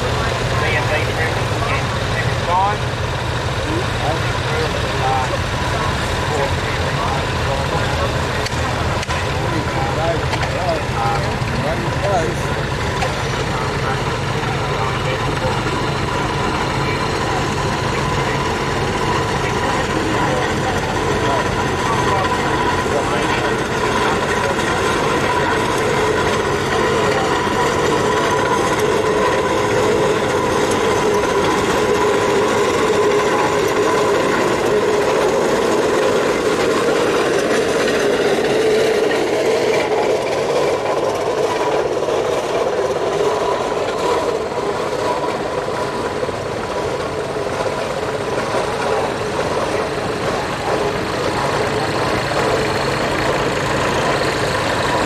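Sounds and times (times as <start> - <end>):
steam traction engine running: 0.0 - 55.0
tractor engines idling: 0.0 - 55.0.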